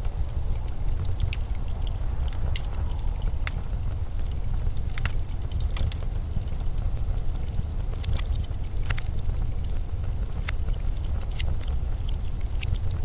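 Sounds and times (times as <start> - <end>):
faint crackles and ticks: 0.0 - 13.0
storm wind low rumble: 0.0 - 13.0.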